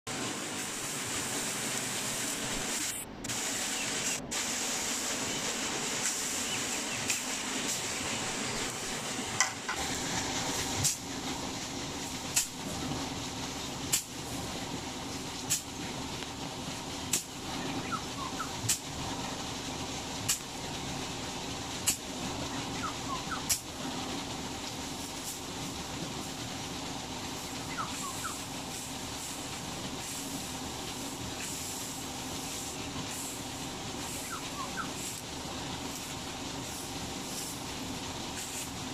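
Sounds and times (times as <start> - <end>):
steady hiss: 0.1 - 38.9.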